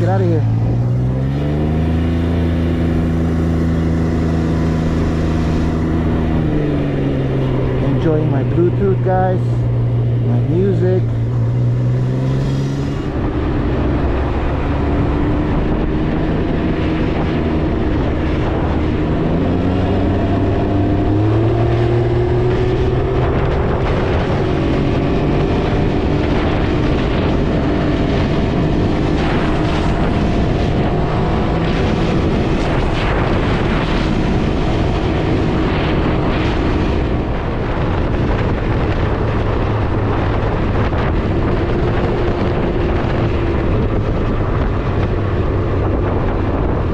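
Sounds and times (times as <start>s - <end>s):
motorcycle engine accelerating: 0.0s - 46.9s
road and wind noise: 0.0s - 46.9s.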